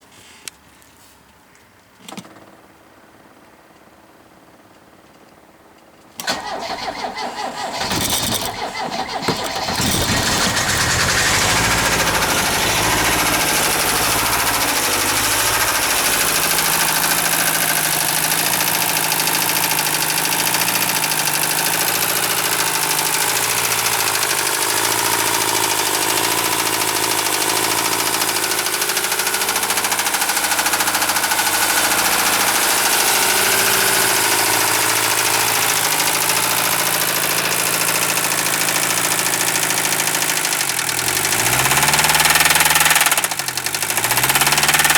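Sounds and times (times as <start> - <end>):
diesel engine idling with knock: 7.6 - 44.9.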